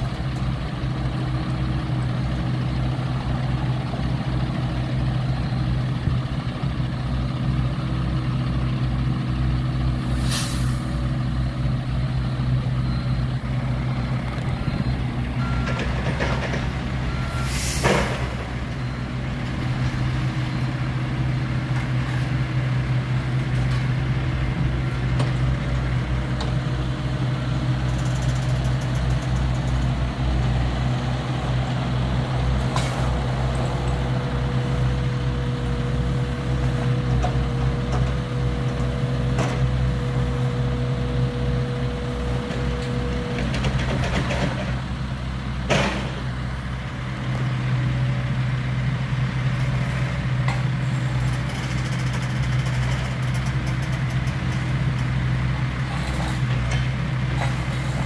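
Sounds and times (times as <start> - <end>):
large engine idling: 0.0 - 58.0.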